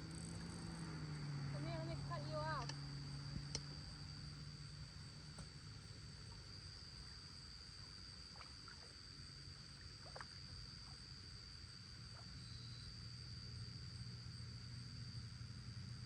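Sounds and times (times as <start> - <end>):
high-pitched insect trill: 0.0 - 16.0
low hum: 0.0 - 16.0.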